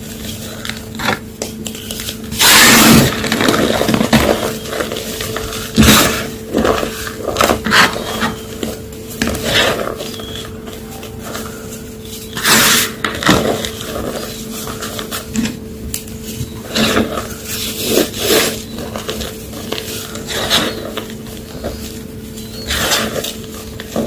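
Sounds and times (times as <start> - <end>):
chalk blocks crunching: 0.0 - 24.0.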